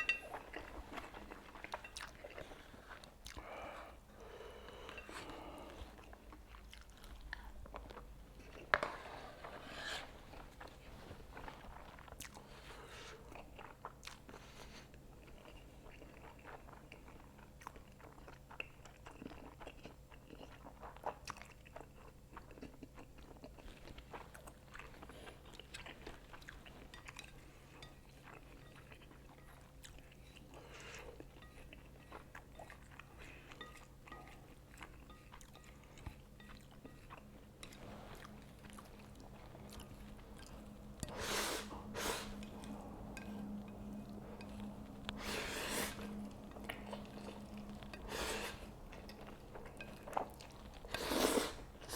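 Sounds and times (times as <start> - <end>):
faint low hum: 0.0 - 51.9
person chewing noodles: 0.0 - 51.9.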